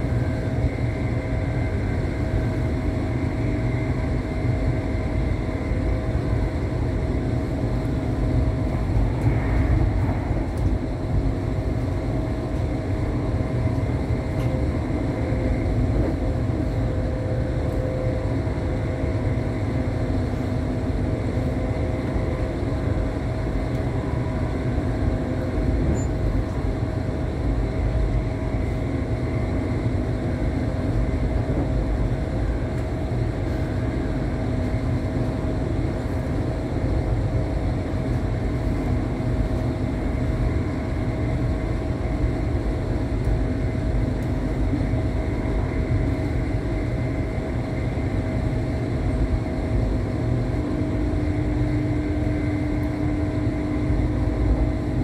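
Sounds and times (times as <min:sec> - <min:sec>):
train carriage rumbling: 0:00.0 - 0:55.0.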